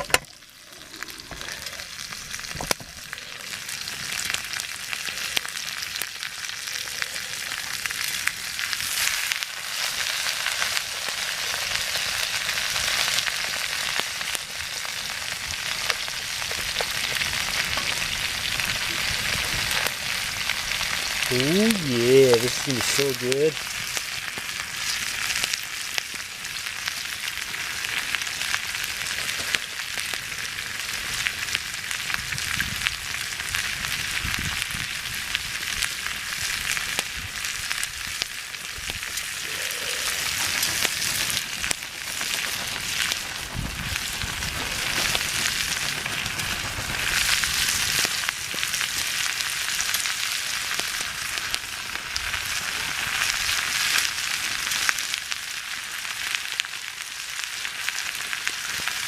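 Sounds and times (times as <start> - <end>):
stir fry sizzling in a pan: 0.0 - 59.0.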